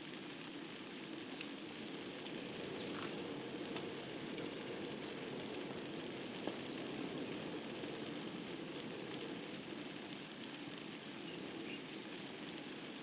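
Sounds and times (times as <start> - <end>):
logs crackling and popping: 0.0 - 13.0
fire flames rushing: 0.2 - 13.0.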